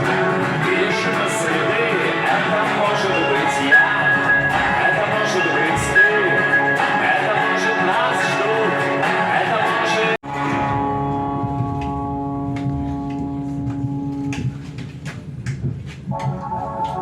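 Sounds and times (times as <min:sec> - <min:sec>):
guitar chord ringing: 0:00.0 - 0:14.6
music playing: 0:00.0 - 0:17.0.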